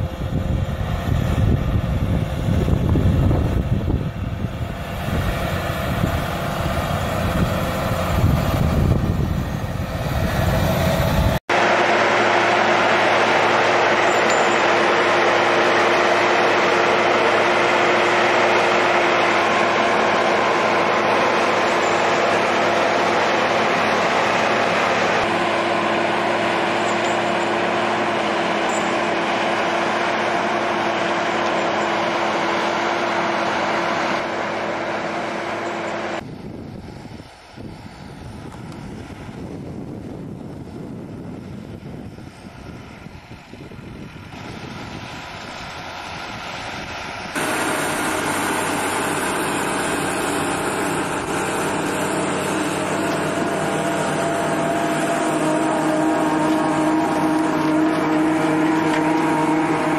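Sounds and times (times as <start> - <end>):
tractor engine running under load: 0.0 - 59.9.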